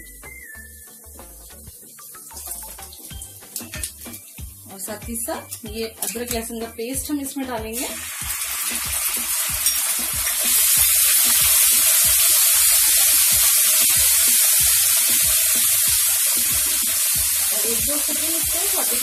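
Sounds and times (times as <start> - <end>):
paste sizzling in hot oil: 0.6 - 6.3, 7.8 - 19.0.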